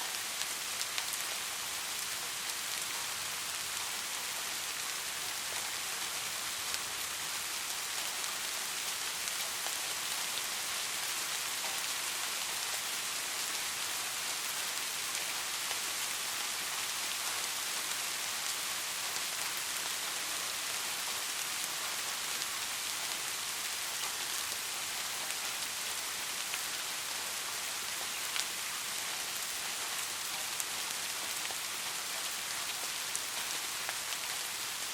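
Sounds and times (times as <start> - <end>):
rain falling on street: 0.0 - 34.9.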